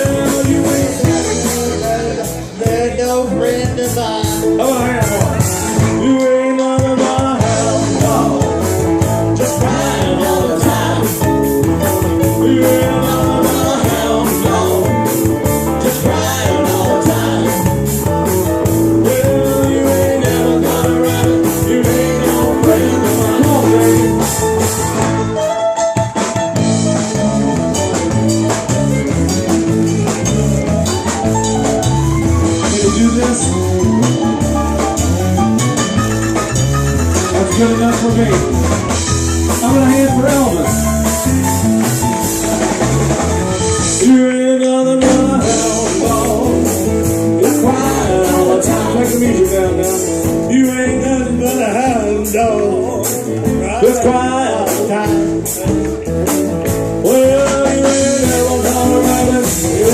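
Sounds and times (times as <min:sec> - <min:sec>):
drum kit beat: 0:00.0 - 0:59.9
electric guitar: 0:00.0 - 0:59.9
rock band playing: 0:00.0 - 0:59.9.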